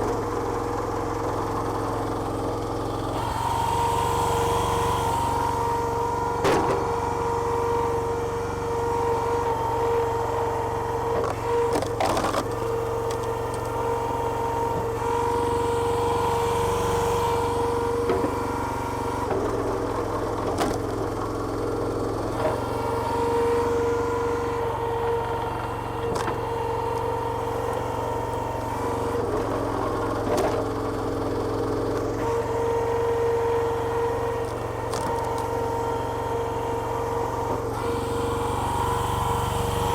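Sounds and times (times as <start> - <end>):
petrol engine whining: 0.0 - 39.9.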